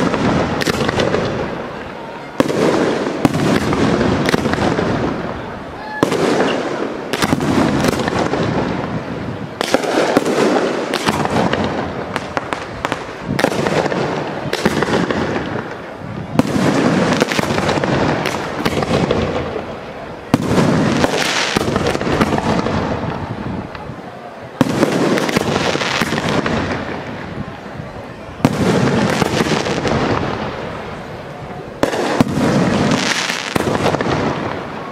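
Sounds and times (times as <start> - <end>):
firework bangs: 0.0 - 34.9
rumbling crackling echo: 0.0 - 34.9.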